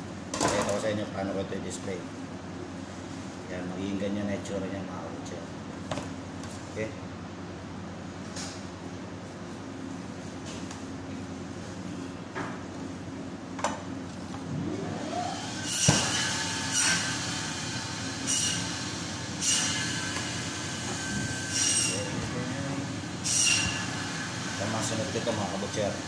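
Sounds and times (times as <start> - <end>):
ventilation hum: 0.0 - 26.0.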